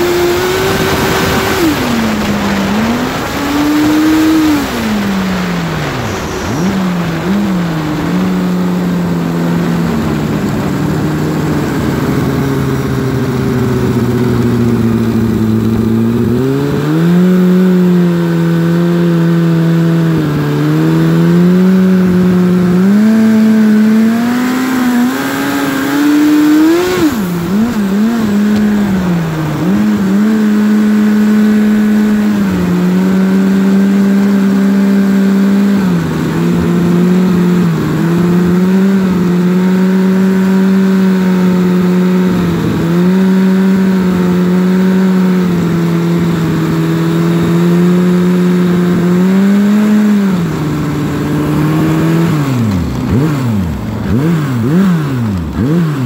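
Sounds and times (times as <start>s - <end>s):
snowmobile engine under throttle: 0.0s - 56.0s.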